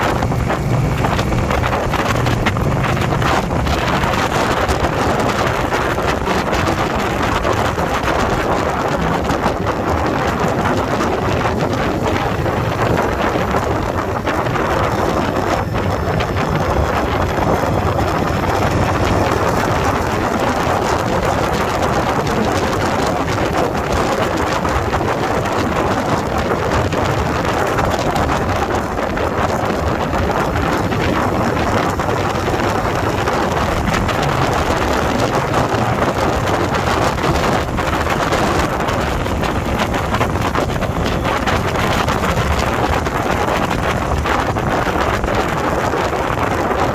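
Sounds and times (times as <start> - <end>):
motorcycle engine: 0.0 - 46.9
road noise: 0.0 - 46.9
wind buffeting microphone: 0.0 - 46.9.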